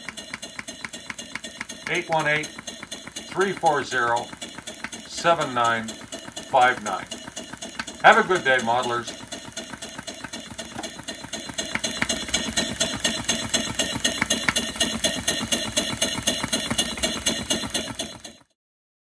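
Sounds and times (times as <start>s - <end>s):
model steam engine clicking: 0.0s - 18.5s.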